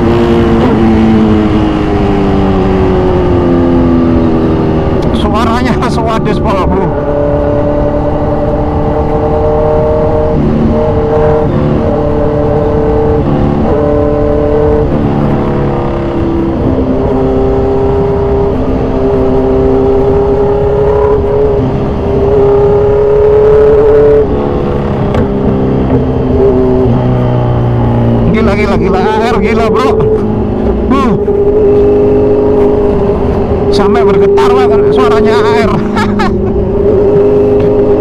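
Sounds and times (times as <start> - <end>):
motorcycle engine accelerating hard: 0.0 - 38.0.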